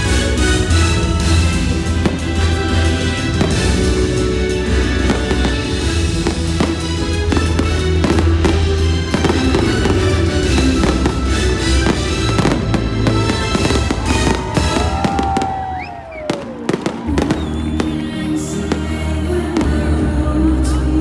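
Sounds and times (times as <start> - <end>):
fireworks bangs: 0.0 - 19.9
orchestral soundtrack music: 0.0 - 21.0.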